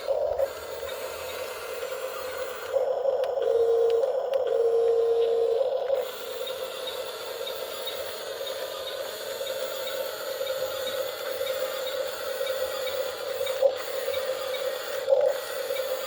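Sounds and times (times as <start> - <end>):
small motor humming: 0.0 - 16.0.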